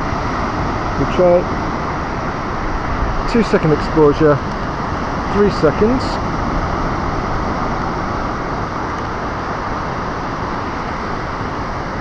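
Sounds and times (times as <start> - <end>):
waves on the shore: 0.0 - 12.0.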